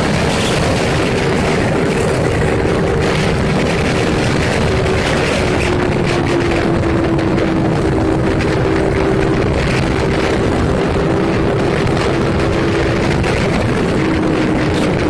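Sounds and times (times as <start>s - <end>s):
motorcycle engine running high: 0.0s - 15.0s
wind rush over microphone: 0.0s - 15.0s.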